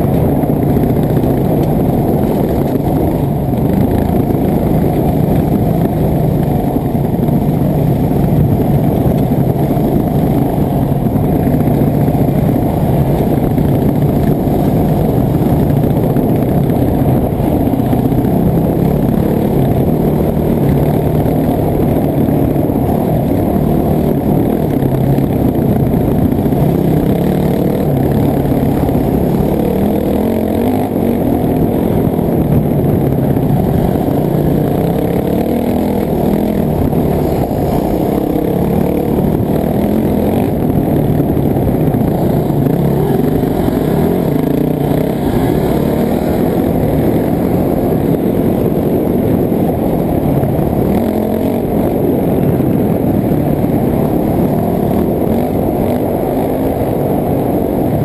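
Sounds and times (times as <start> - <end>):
dirt bike engine revving: 0.0 - 52.8.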